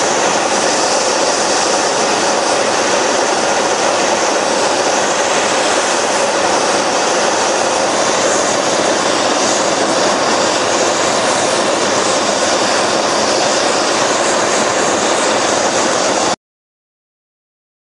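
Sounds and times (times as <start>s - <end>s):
gas torch flame hissing: 0.0s - 16.4s.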